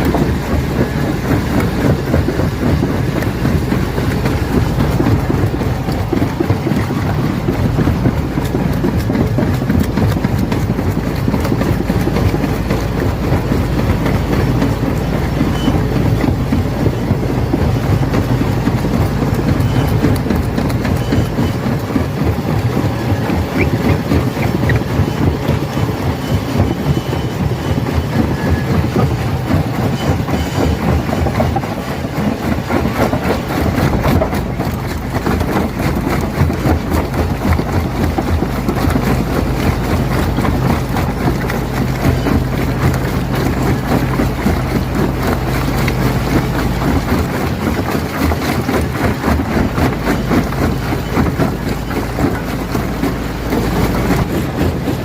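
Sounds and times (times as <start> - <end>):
machine low drone: 0.0 - 55.0.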